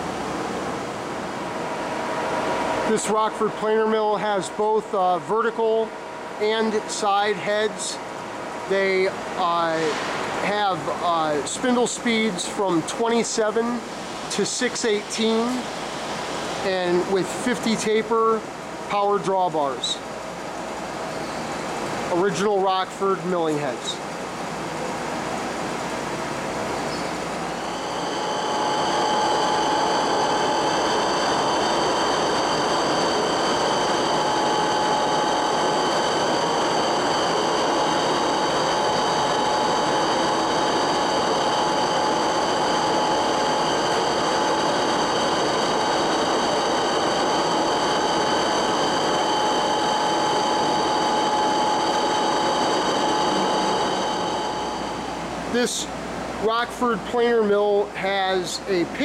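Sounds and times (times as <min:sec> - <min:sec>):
planer mill hum and whine: 0:00.0 - 0:59.0.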